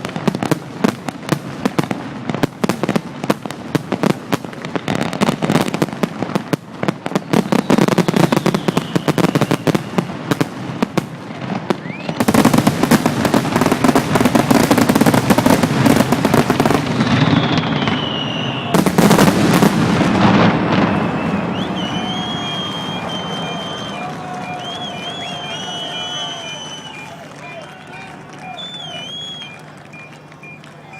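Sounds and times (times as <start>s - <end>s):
fireworks bangs and crackling: 0.0s - 30.9s.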